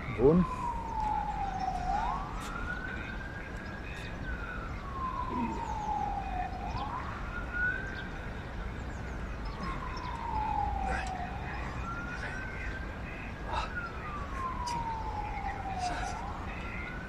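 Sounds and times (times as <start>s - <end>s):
emergency vehicle siren wailing: 0.0s - 17.0s.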